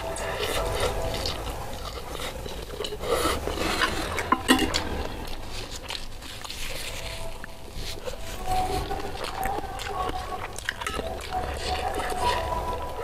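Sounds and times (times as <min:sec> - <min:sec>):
eating noises: 0:00.0 - 0:13.0.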